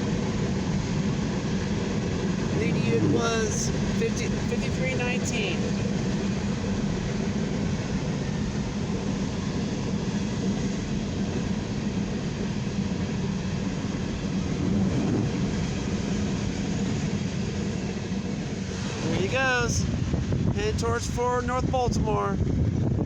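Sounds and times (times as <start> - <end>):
steel wheels rumbling on rail: 0.2 - 19.2.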